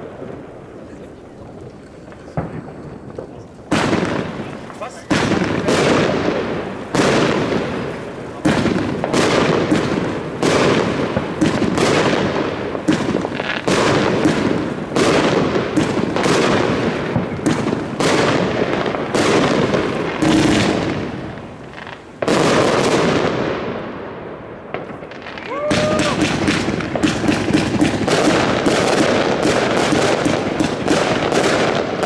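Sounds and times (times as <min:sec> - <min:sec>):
firework launch thumps and bursts: 0:02.1 - 0:23.4, 0:24.7 - 0:32.0.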